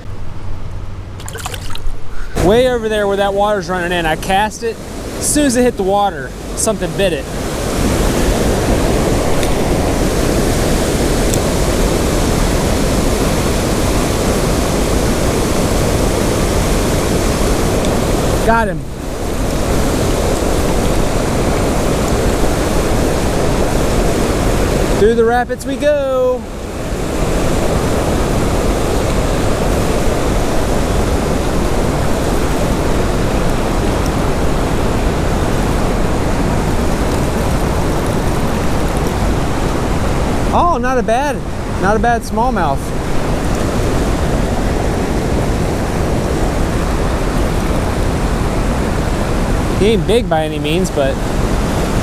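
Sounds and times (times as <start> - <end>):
river water rushing through rapids: 2.4 - 52.0.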